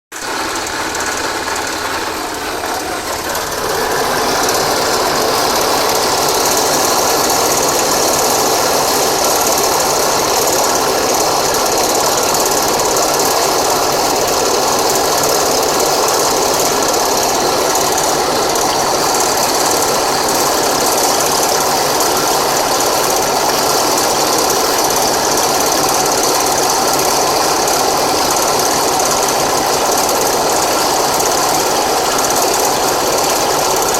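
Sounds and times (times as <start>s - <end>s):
scooter engine running: 0.1s - 33.9s.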